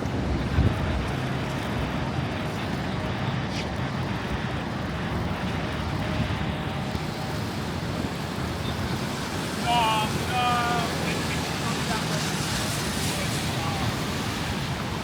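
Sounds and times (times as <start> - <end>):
city street traffic: 0.0 - 15.0
wind on microphone: 0.0 - 15.0.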